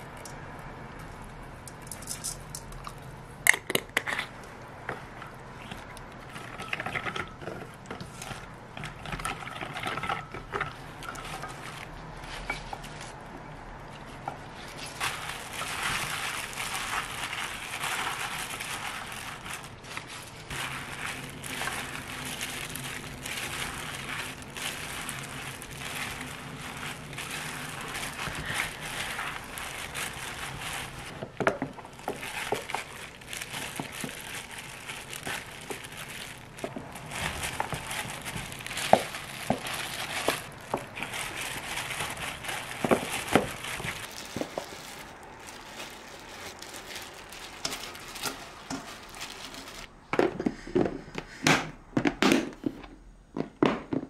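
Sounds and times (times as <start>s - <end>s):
glove squelching wet vegetables: 4.3s - 50.0s.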